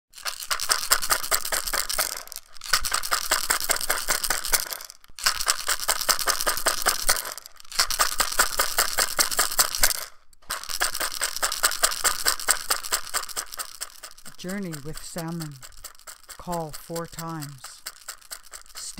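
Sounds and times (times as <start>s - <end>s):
shell rattle with beads shaken: 0.1s - 18.9s.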